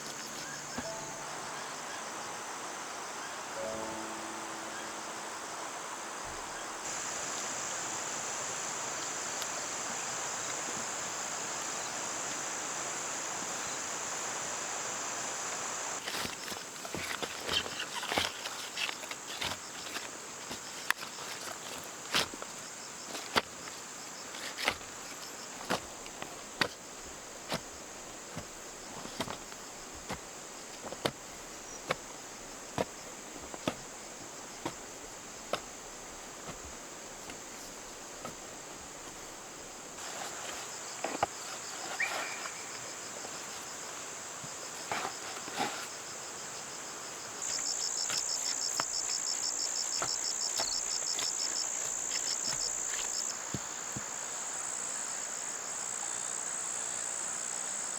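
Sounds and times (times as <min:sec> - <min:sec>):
high-pitched insect chorus: 0:00.0 - 0:57.9
rapid pulsing insect chirp: 0:00.0 - 0:57.9.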